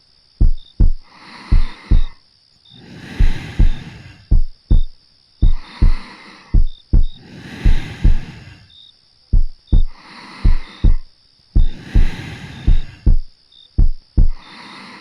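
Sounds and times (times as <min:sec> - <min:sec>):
slow heartbeat: 0:00.4 - 0:02.2, 0:03.0 - 0:08.6, 0:09.3 - 0:14.4
soft slow breathing: 0:00.4 - 0:15.0.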